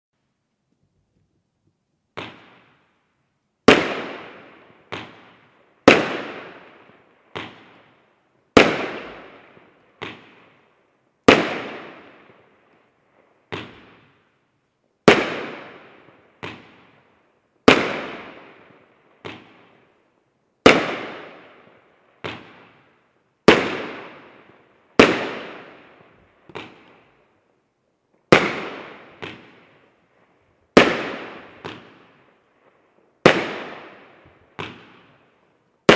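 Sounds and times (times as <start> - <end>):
fireworks bangs with echo: 2.1 - 3.0, 3.6 - 12.7, 13.3 - 14.3, 15.0 - 19.9, 20.6 - 27.2, 28.2 - 30.0, 30.6 - 35.9.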